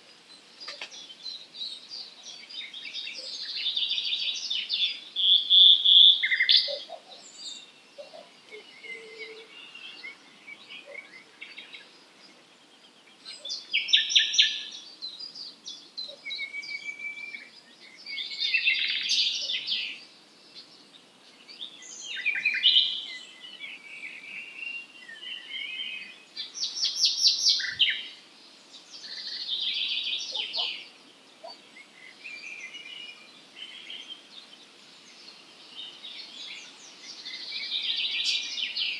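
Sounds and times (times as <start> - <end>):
songbirds trilling: 0.0 - 38.9.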